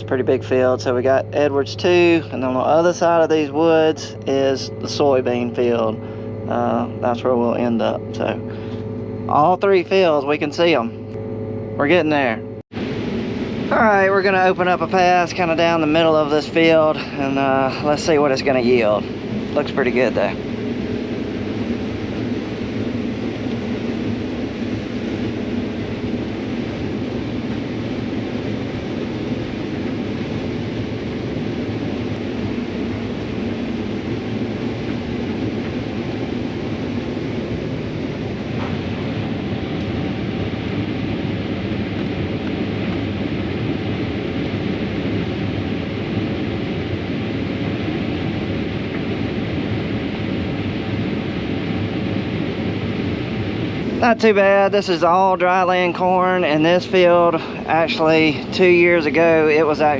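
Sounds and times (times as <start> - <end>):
combine harvester machinery drone: 0.0 - 59.9.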